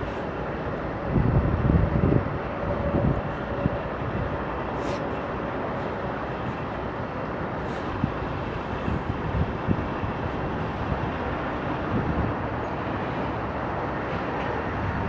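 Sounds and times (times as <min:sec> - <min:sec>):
strong wind blowing: 0:00.0 - 0:15.0
wind gusts buffeting microphone: 0:00.0 - 0:15.0.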